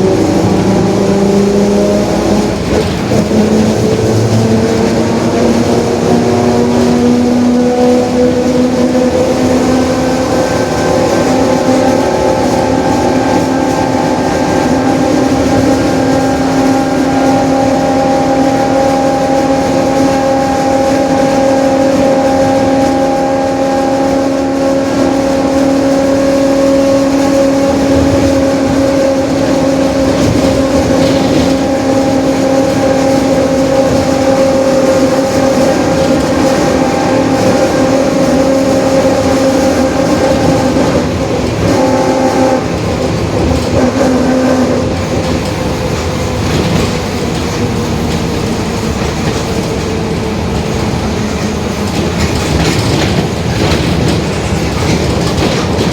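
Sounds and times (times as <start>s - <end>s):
bus engine rumble: 0.0s - 55.9s.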